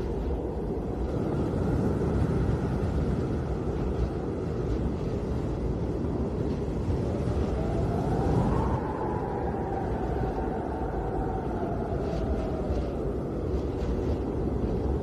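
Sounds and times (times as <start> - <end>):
wind rushing: 0.0 - 15.0.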